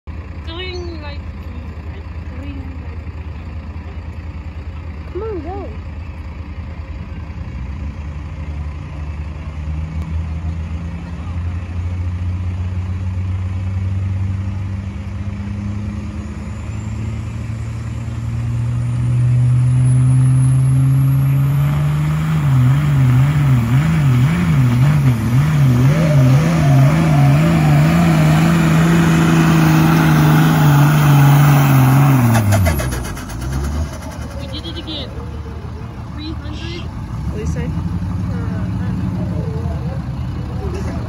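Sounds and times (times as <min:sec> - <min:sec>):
diesel engine surging: 0:00.1 - 0:41.0.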